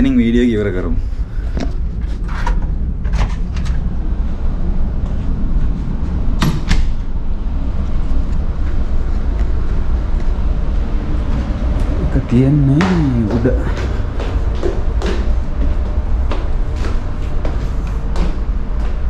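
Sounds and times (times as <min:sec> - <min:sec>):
ship machinery rumble: 0:00.0 - 0:19.0.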